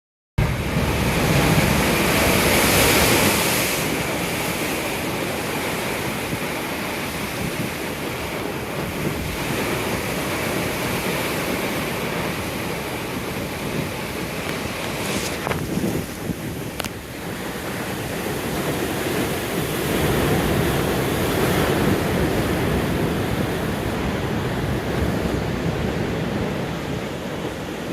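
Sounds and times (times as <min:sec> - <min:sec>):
ocean waves breaking: 0:00.4 - 0:27.9
wind buffeting microphone: 0:00.4 - 0:27.9.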